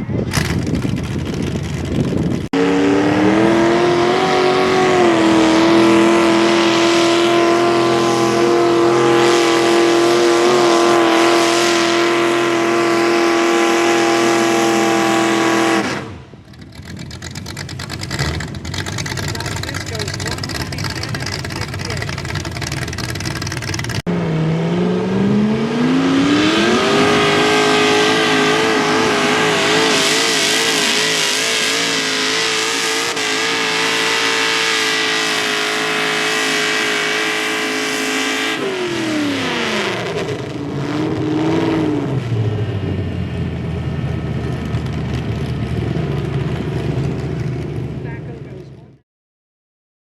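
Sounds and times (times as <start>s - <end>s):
tractor engine revving: 0.0s - 48.9s.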